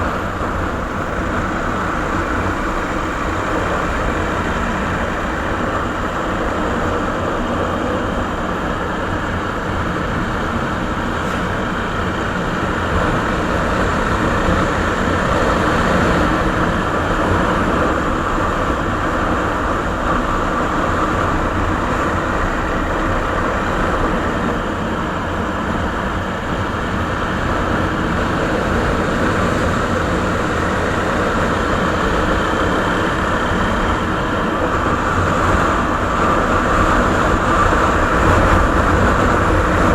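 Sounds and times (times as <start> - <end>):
motorcycle engine running: 0.1 - 39.9.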